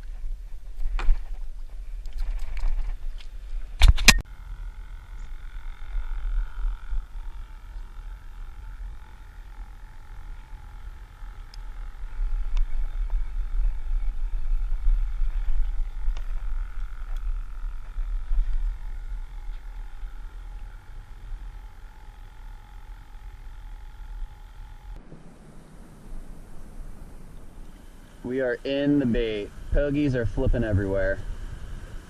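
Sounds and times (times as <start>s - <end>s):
wind rumbling on microphone: 0.0s - 4.2s, 4.8s - 32.0s
faint steady whine: 0.0s - 32.0s.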